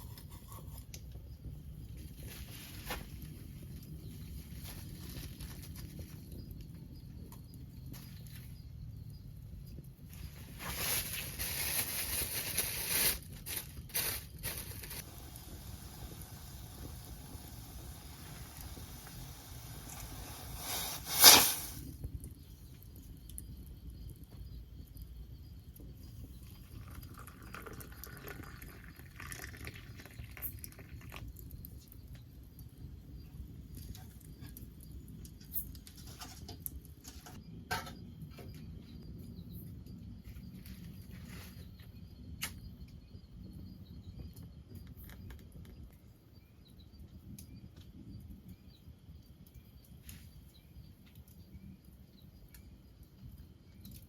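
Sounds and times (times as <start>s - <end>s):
faint insects chirping: 0.0s - 54.0s.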